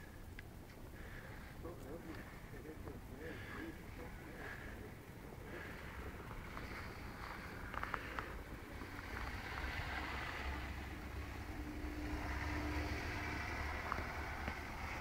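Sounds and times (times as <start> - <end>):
faint engine hum: 0.0 - 15.0
car rumbling on snow: 0.8 - 15.0.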